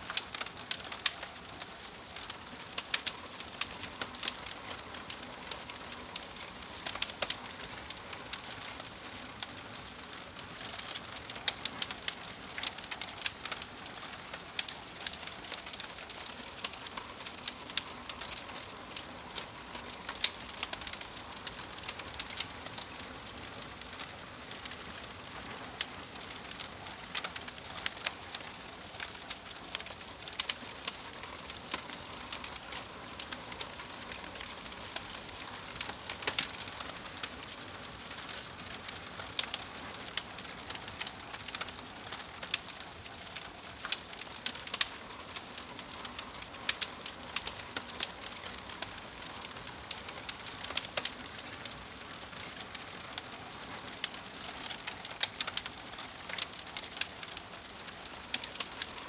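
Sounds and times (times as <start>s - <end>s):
fire crackling and popping: 0.0s - 59.0s
fire hiss: 0.0s - 59.0s.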